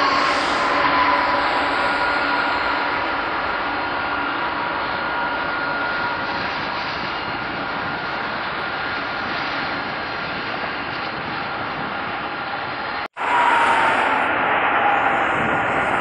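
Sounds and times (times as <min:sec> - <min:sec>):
jet engines whining at taxi: 0:00.0 - 0:16.0.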